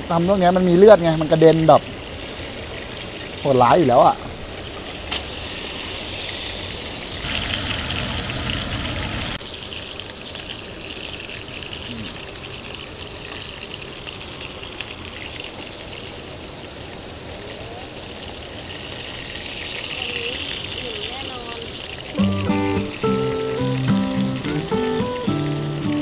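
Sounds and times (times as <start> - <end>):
patties sizzling in hot oil: 0.0 - 26.0.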